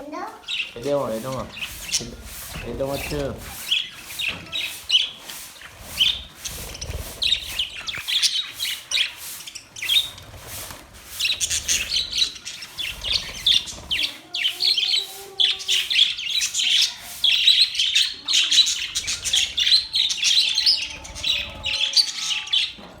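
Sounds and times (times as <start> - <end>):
budgerigars chattering: 0.2 - 23.0.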